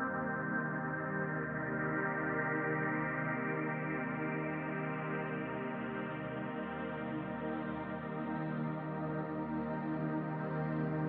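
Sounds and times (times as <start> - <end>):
calm music of sustained chords: 0.0 - 11.0.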